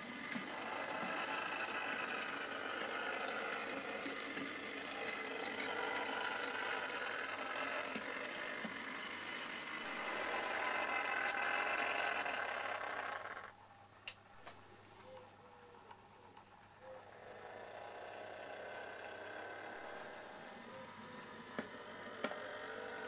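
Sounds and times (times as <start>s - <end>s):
model train motor whirring: 0.0s - 13.6s, 16.9s - 23.0s.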